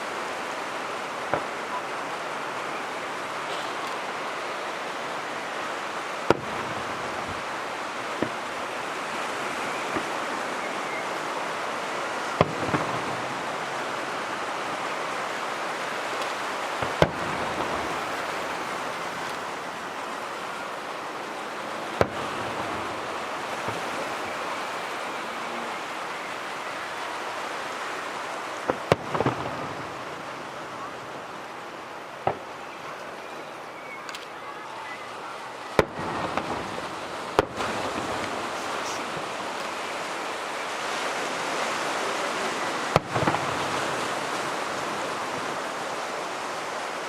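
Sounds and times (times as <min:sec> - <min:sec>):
rushing hiss: 0:00.0 - 0:32.7, 0:35.7 - 0:47.0
fireworks bangs: 0:01.2 - 0:31.4, 0:32.2 - 0:32.8, 0:34.1 - 0:40.2, 0:41.6 - 0:46.1.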